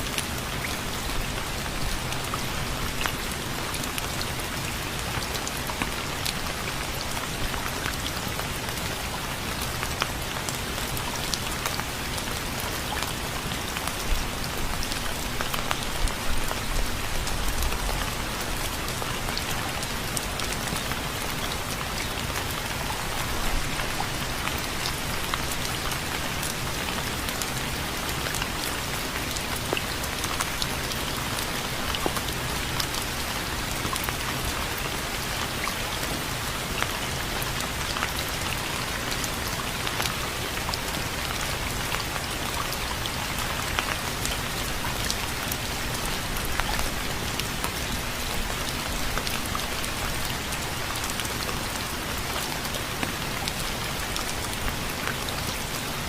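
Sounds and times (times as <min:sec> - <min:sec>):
steady rain with dripping ticks: 0:00.0 - 0:56.0.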